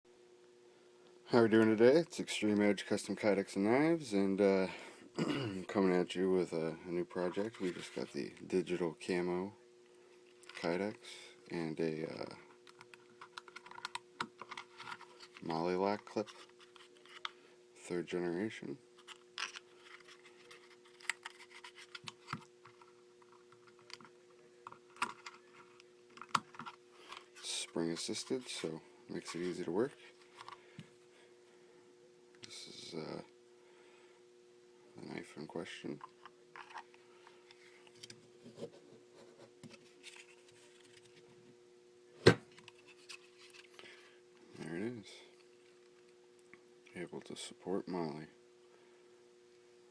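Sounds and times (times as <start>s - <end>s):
faint steady hum: 0.1s - 49.9s.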